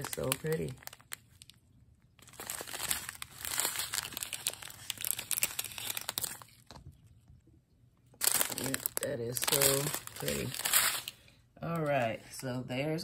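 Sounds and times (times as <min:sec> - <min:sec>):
plastic bags crinkling: 0:00.0 - 0:07.2, 0:08.1 - 0:12.0.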